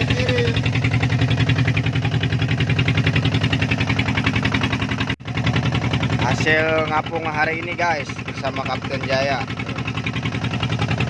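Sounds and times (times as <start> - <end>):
boat engine throbbing: 0.0 - 11.0.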